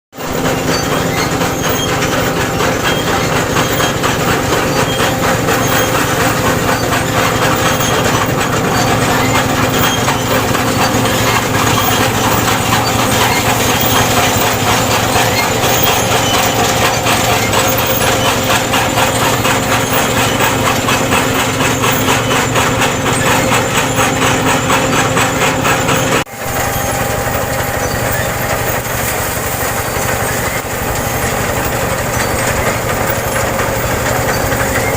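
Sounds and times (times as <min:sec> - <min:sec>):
combine harvester running: 0:00.2 - 0:34.9.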